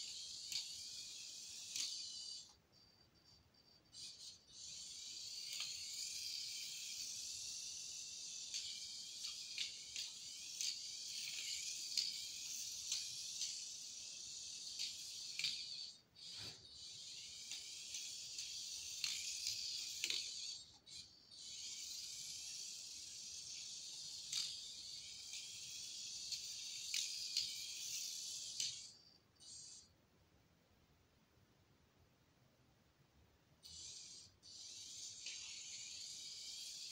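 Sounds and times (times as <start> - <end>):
sharp ticks: 0.0 - 29.9
rc car electric motor whine: 0.0 - 30.0, 33.6 - 36.9.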